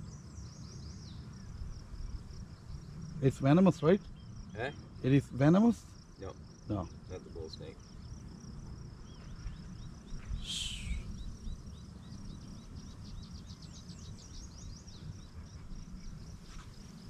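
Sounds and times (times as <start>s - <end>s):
birds chirping: 0.0s - 17.0s
pulsing insect trill: 0.0s - 17.0s
wind rumbling on microphone: 0.0s - 17.0s.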